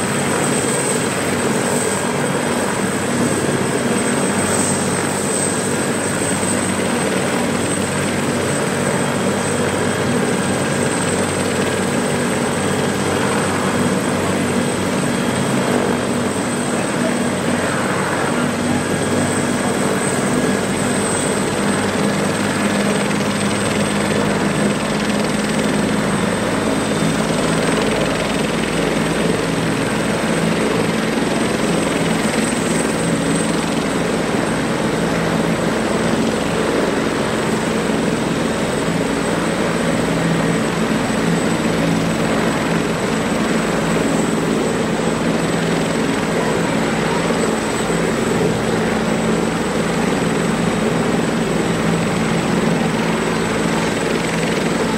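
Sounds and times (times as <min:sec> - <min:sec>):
helicopter rotor drone: 0:00.0 - 0:54.9
helicopter turbine whine: 0:00.0 - 0:54.9.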